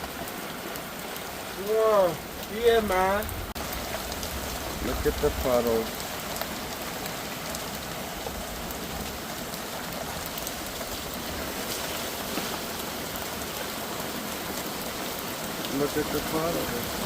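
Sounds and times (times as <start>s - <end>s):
heavy rain pouring: 0.0s - 17.0s
individual raindrop ticks: 0.0s - 17.0s.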